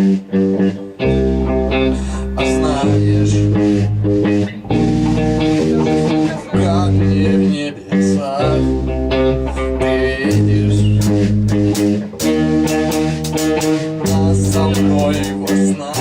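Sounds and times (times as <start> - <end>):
band playing guitars and bass: 0.0 - 16.0.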